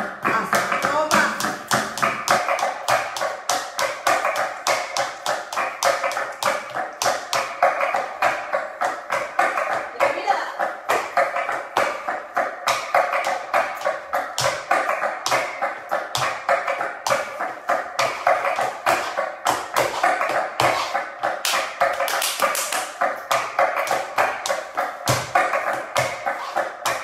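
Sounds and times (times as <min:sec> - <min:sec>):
sharp percussive taps: 0:00.0 - 0:27.0.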